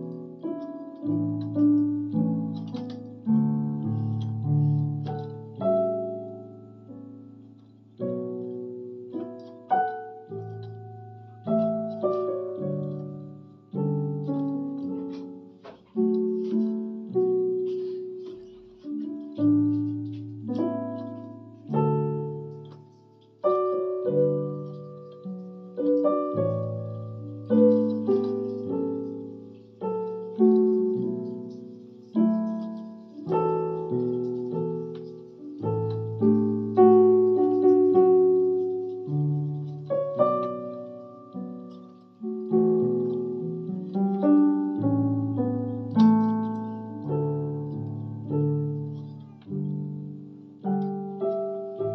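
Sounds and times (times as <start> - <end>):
electronic keyboard piano melody: 0.0 - 51.9.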